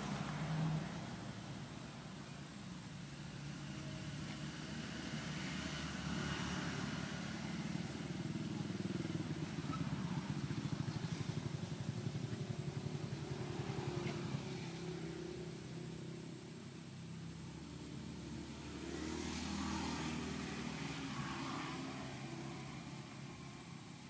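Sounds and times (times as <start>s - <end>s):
vehicle engine passing by: 0.0s - 24.0s.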